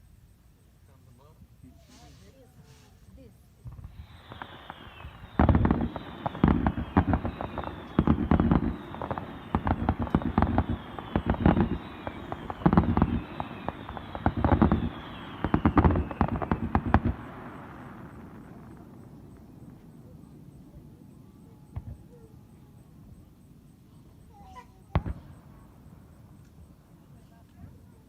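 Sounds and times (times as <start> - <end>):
fireworks whistles falling in pitch: 0.0 - 28.0
fireworks booming and crackling: 3.6 - 23.3, 23.9 - 28.0.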